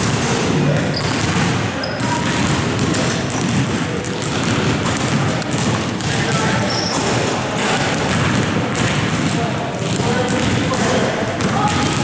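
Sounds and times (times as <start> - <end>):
basketballs bouncing on hardwood floor: 0.0 - 12.0.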